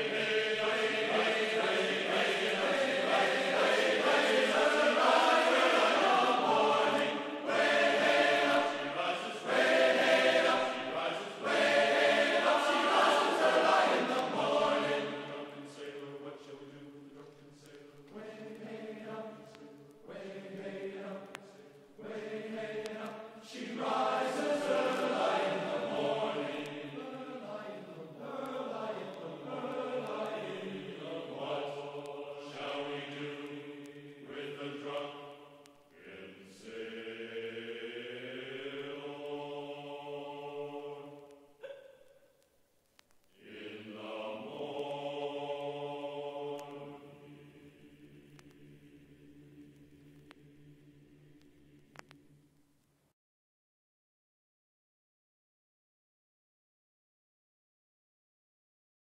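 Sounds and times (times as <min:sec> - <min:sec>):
choral chanting: 0:00.0 - 0:42.2, 0:43.3 - 0:52.5.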